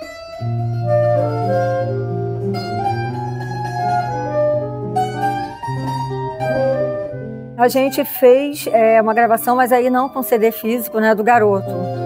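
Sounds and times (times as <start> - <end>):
clarinet: 0.0 - 12.0
mandolin plucking: 0.0 - 12.0
nylon-string guitar: 0.0 - 12.0.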